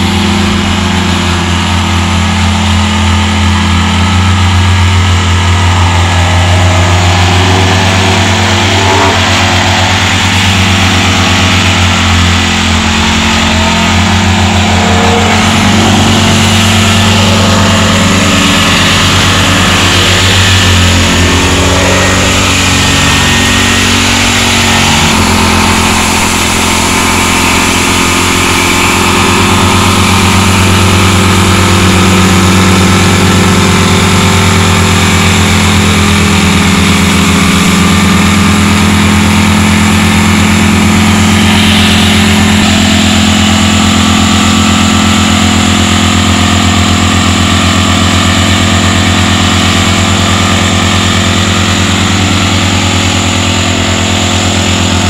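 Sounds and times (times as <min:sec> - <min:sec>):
plate compactor running: 0:00.0 - 0:55.0.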